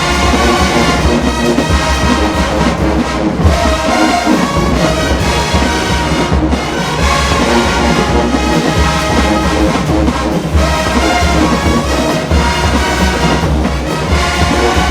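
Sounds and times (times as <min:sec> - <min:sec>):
marching band brass section: 0:00.0 - 0:14.9
pounding drum line: 0:00.0 - 0:14.9.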